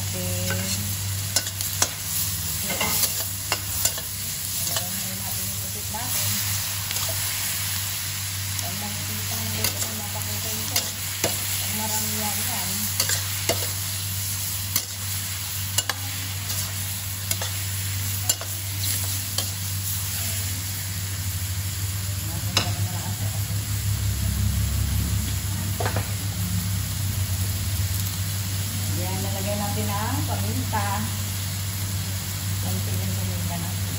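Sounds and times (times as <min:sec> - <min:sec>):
food sizzling in hot oil: 0:00.0 - 0:33.9.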